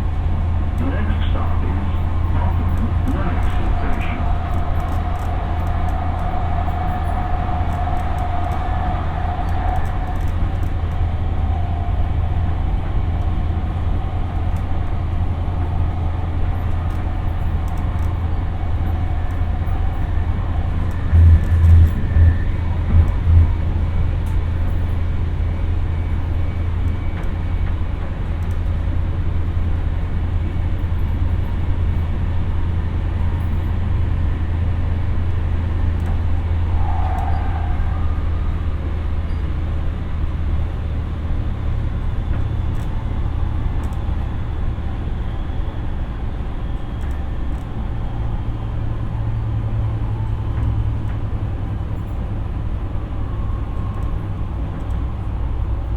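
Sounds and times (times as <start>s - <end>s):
train whine: 0.0s - 55.9s
wheels rumbling on rail: 0.0s - 55.9s.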